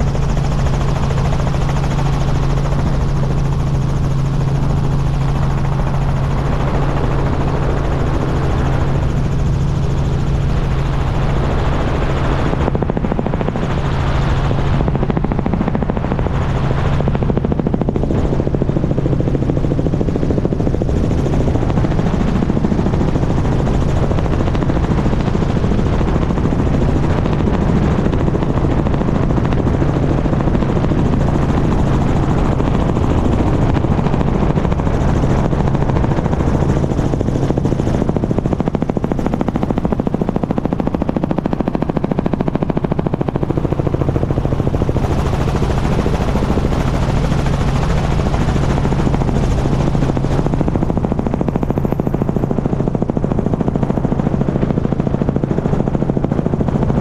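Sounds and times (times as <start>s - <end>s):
helicopter rotor and engine noise: 0.0s - 57.0s
rushing wind: 0.0s - 57.0s.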